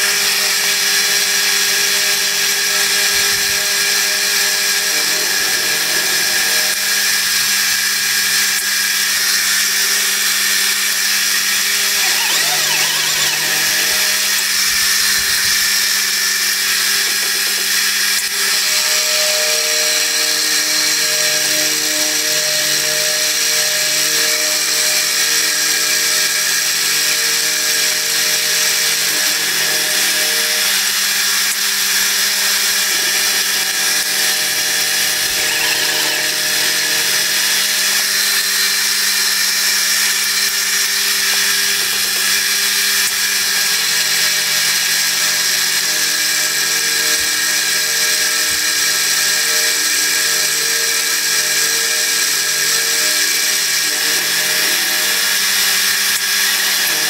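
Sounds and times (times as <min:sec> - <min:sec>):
milling machine cutting steel: 0:00.1 - 0:57.0.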